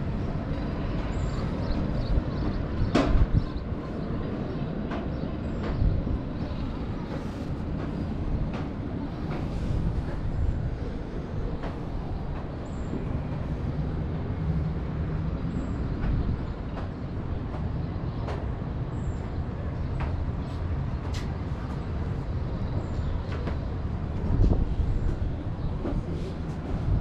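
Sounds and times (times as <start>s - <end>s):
rail vehicle rumble: 0.0s - 27.0s.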